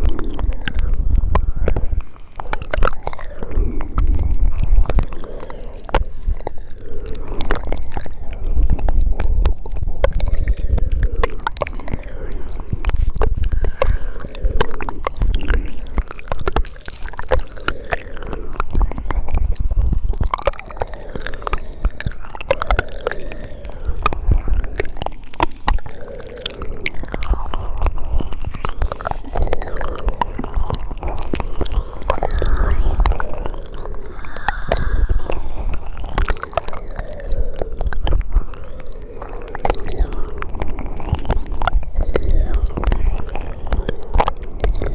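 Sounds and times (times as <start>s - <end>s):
wet mouth clicks and smacks: 0.0s - 44.9s.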